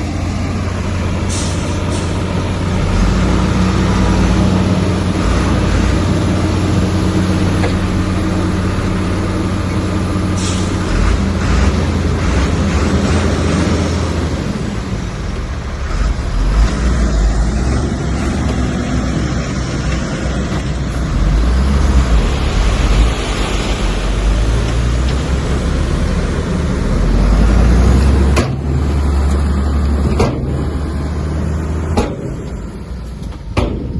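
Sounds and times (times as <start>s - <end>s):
heavy diesel engines droning: 0.0s - 33.9s.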